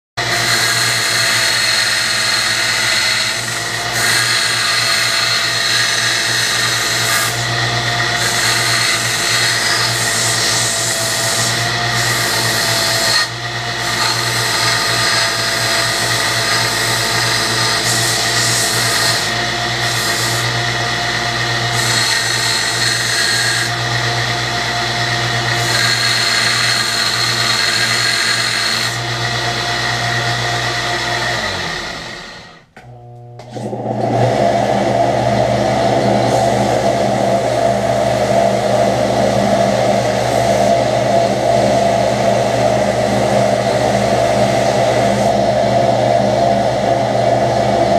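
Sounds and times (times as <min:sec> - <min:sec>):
electric grinder grinding: 0:00.2 - 0:47.9.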